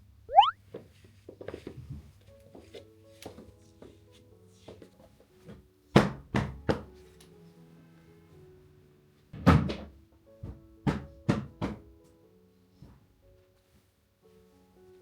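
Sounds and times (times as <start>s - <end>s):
soft background music: 1.2s - 15.0s.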